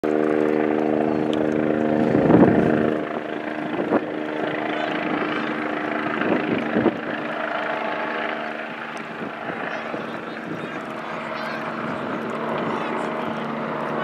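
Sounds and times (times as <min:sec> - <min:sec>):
engine drone: 0:00.0 - 0:14.0
wind noise on microphone: 0:00.4 - 0:14.0.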